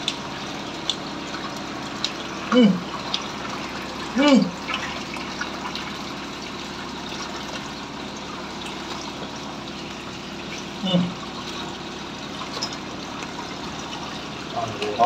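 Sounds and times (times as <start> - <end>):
water flowing from drain pipe: 0.0 - 15.0.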